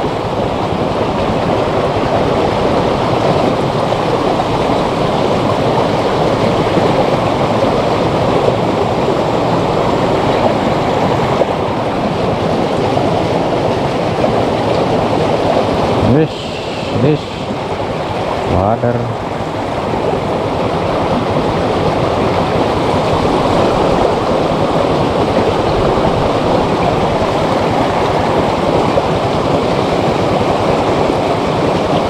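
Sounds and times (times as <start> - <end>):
fast-flowing water rushing: 0.0 - 32.0.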